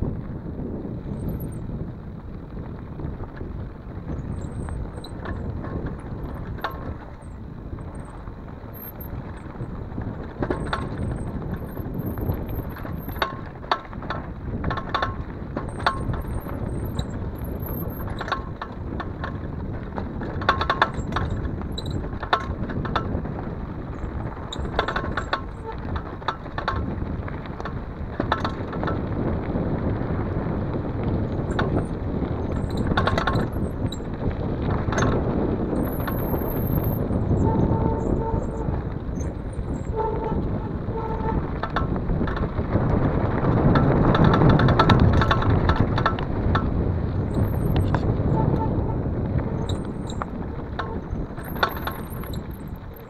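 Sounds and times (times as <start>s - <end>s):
bike rattling over bumps: 0.0s - 53.0s
bike riding on gravel: 0.0s - 53.0s
wind rumbling on microphone: 0.0s - 53.0s.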